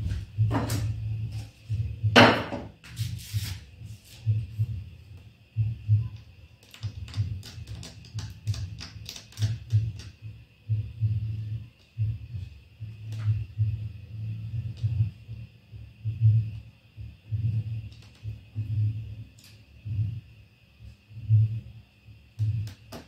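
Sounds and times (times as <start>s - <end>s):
low hum: 0.0s - 2.9s, 3.5s - 23.0s.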